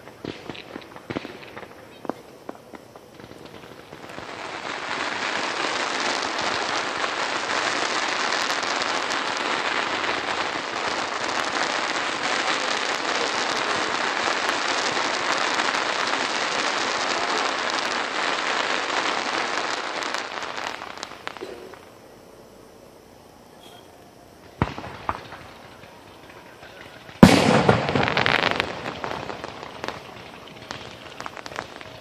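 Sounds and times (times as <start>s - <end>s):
fireworks fountain crackling: 0.0s - 22.3s, 22.9s - 32.0s.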